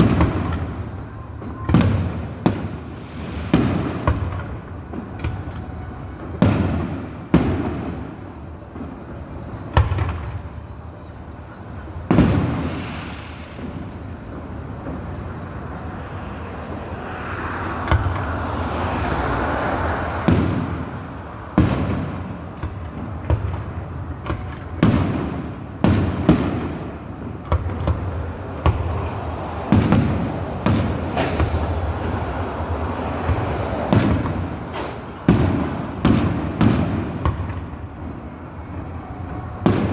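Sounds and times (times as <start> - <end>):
fireworks booming: 0.0 - 39.9
fireworks hiss and crackle: 0.0 - 39.9.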